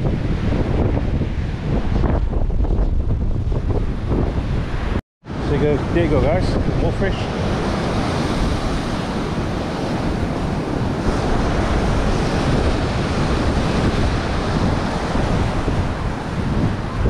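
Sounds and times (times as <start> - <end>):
surf breaking on a beach: 0.0 - 17.0
wind buffeting the microphone: 0.0 - 17.0.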